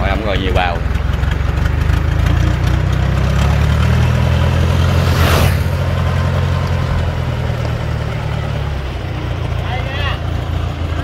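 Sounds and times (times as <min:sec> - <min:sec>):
tracked machine engine running: 0:00.0 - 0:11.0.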